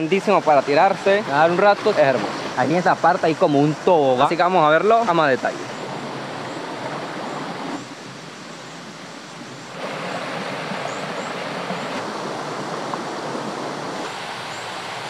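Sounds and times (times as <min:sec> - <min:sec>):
stream water rushing over rocks: 0:00.0 - 0:15.0.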